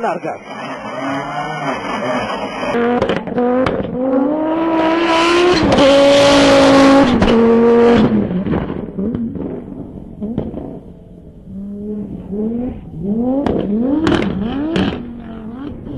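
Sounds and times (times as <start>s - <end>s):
rally car engine revving: 0.0s - 15.9s.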